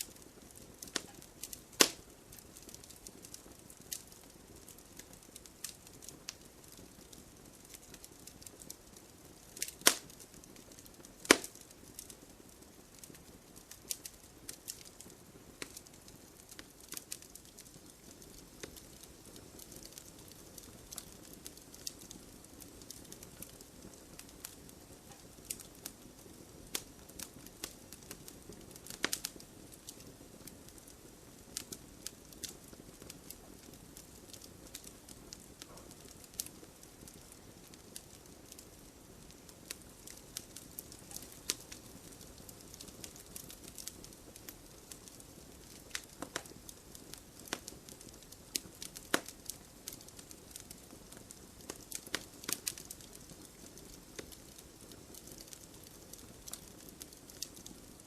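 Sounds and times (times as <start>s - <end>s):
campfire snaps and pops: 0.0s - 58.0s
low hiss of burning: 0.0s - 58.0s.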